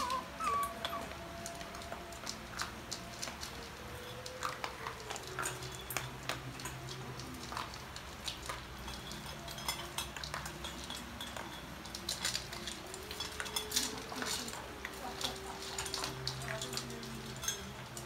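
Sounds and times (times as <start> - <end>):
puppies eating kibble from metal bowl: 0.0 - 18.0.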